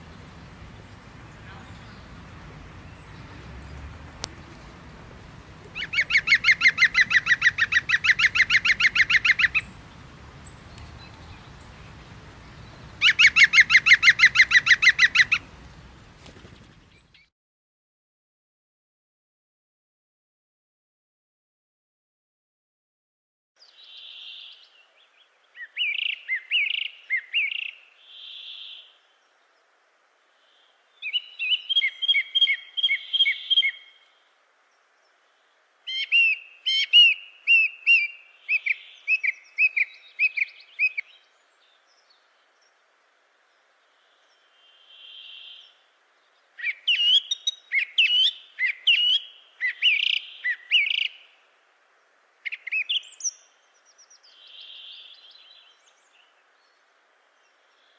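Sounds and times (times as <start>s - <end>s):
songbird chirping: 0.0s - 17.3s, 23.6s - 57.9s.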